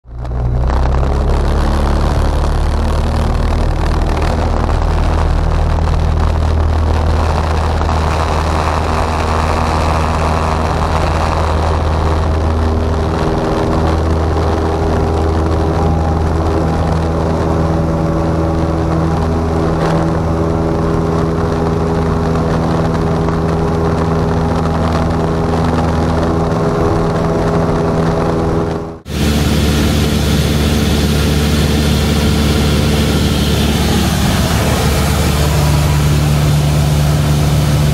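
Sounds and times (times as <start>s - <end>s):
aircraft engine and propeller drone: 0.6s - 37.9s.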